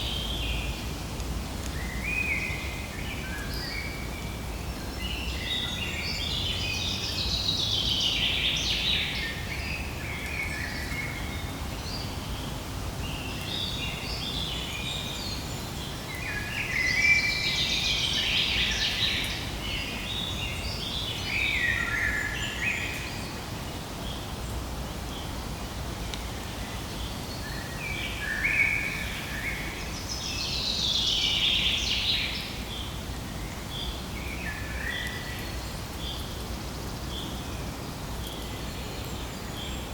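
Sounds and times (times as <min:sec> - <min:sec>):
steady low background noise: 0:00.0 - 0:39.9.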